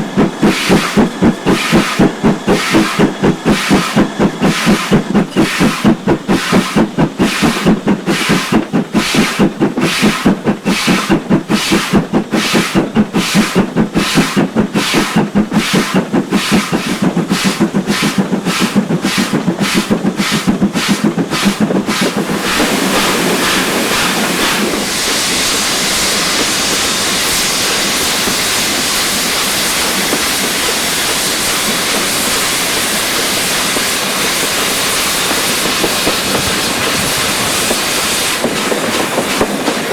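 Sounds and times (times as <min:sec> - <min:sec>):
steam locomotive exhaust beats: 0:00.0 - 0:39.9
train running noise and hiss: 0:00.0 - 0:39.9.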